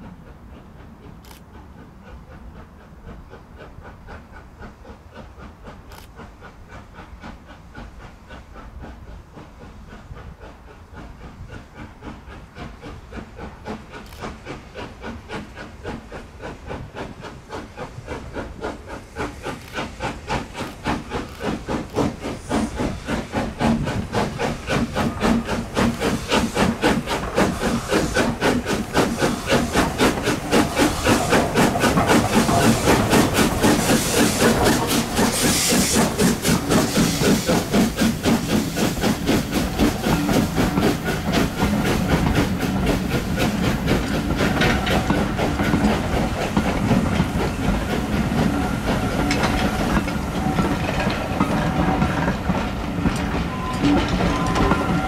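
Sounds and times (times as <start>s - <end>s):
steam locomotive exhaust beat: 0.0s - 55.0s
train coaches running by: 0.0s - 55.0s
steam hissing: 0.6s - 55.0s.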